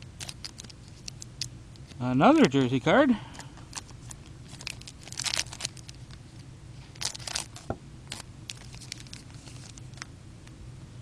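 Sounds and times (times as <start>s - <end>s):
card pack wrapper crinkling: 0.0s - 2.0s, 3.3s - 10.1s.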